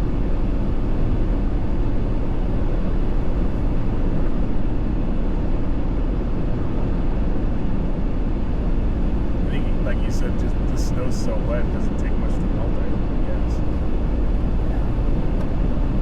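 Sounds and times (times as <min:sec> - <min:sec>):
car engine noise: 0:00.0 - 0:16.0.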